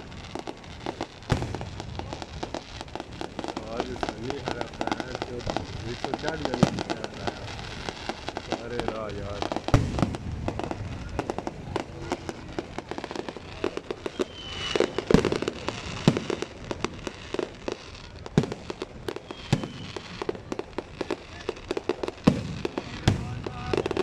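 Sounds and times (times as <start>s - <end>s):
fireworks booms: 0.0s - 24.0s
fireworks crackling pops: 0.0s - 24.0s.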